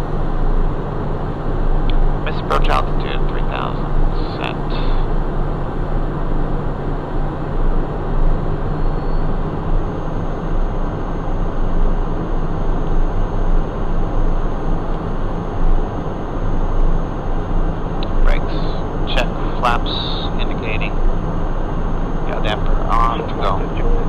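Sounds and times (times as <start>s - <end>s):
faint high steady whine: 0.0s - 24.0s
jet engines humming: 0.0s - 24.0s.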